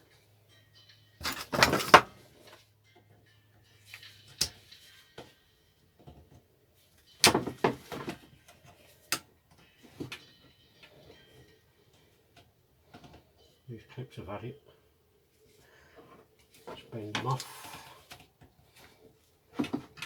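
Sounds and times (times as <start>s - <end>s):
tools and parts clattering: 0.8s - 5.4s, 6.0s - 13.6s, 16.0s - 20.0s.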